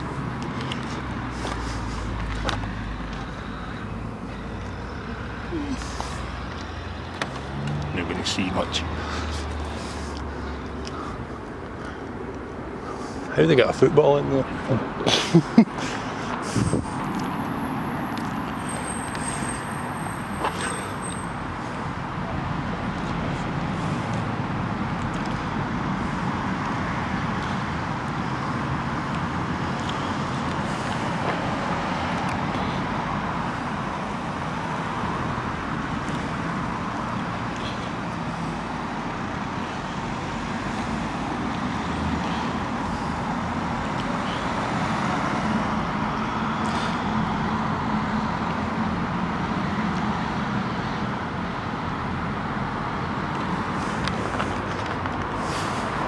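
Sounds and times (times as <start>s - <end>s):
cars passing on road: 0.0s - 56.0s.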